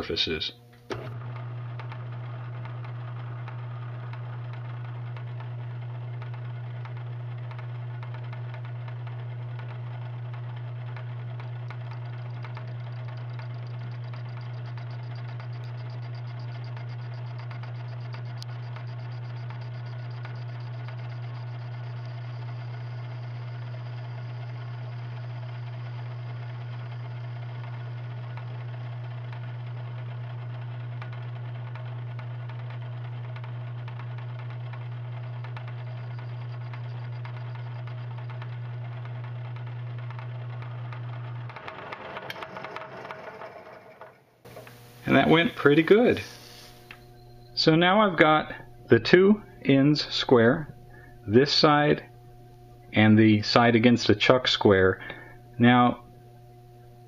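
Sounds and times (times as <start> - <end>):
metal lathe humming: 0.0 - 30.4, 34.6 - 57.0.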